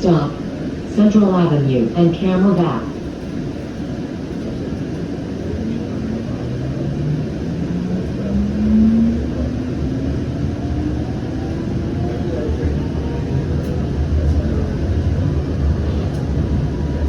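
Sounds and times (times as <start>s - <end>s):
electric traction drive whine: 0.0s - 17.0s
wheels rumbling on rail: 0.0s - 17.0s.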